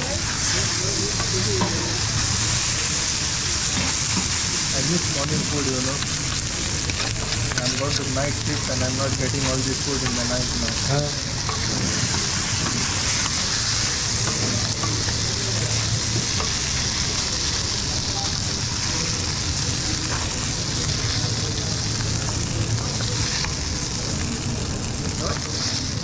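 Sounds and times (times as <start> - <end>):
fried rice sizzling on griddle: 0.0 - 26.0.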